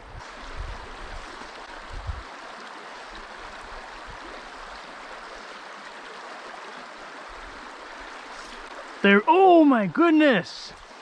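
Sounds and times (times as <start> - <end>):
stream water running over riffles: 0.0 - 11.0.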